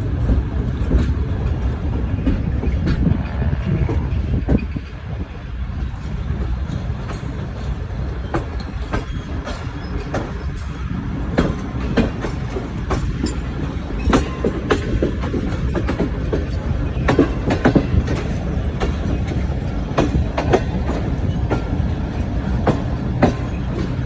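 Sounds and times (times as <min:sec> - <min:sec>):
train rumbling on track: 0:00.0 - 0:24.0
train wheels clacking: 0:00.0 - 0:24.0.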